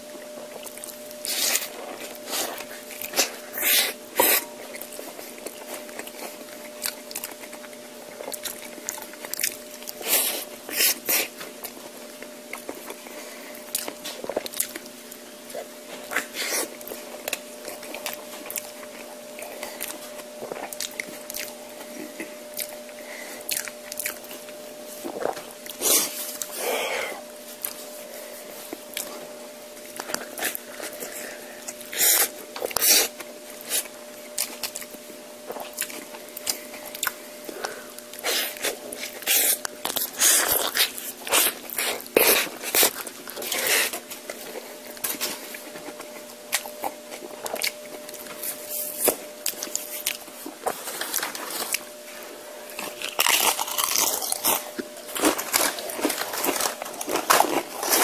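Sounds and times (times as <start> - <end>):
crunching and chewing food: 0.0 - 58.0
faint steady hum: 0.0 - 58.0.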